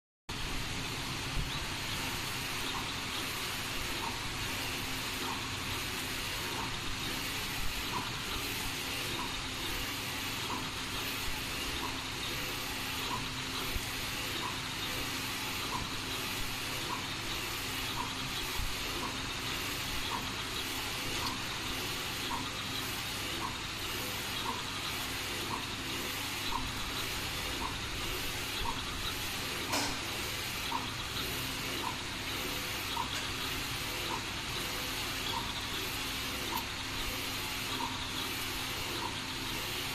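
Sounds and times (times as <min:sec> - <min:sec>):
printer carriage whirring: 0:00.3 - 0:39.9
printer ticking: 0:00.3 - 0:39.9.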